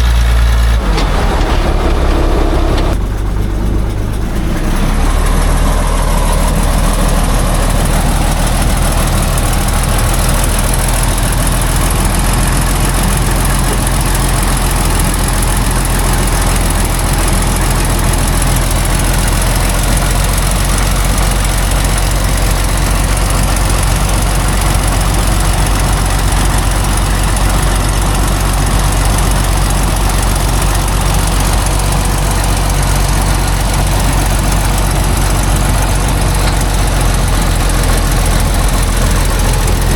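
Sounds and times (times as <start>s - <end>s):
truck engine running at low revs: 0.0s - 39.9s.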